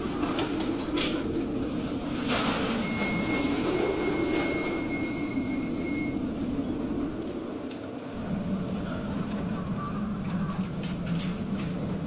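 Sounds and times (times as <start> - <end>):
storm wind and heavy seas: 0.0 - 12.0.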